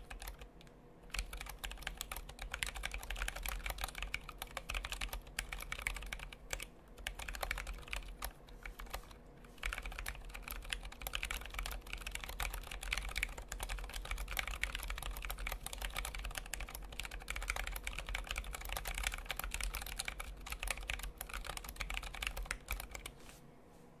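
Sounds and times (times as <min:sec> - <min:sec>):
fast mechanical keyboard typing: 0:00.0 - 0:23.2.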